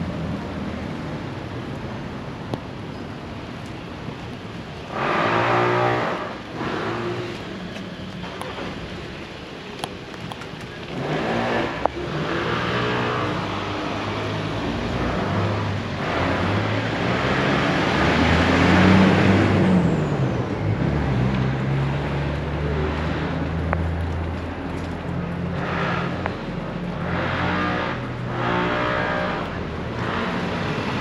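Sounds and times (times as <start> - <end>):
vehicles driving past: 0.0 - 31.0.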